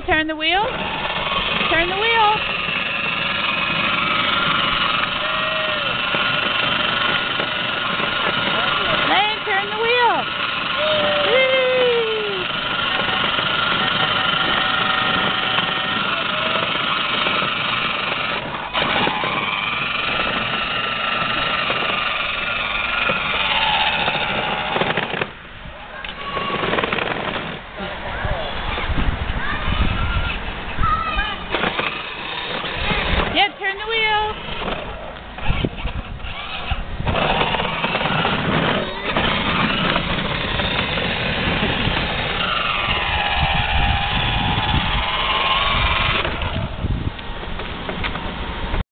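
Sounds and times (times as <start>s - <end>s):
plastic wheels rolling on asphalt: 0.0s - 48.8s
electric motor whine: 0.4s - 25.4s, 31.2s - 48.8s.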